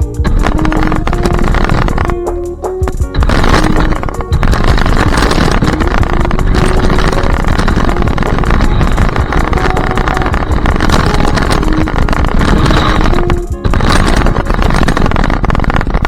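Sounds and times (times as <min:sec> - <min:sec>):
rc car motor: 0:00.0 - 0:16.0.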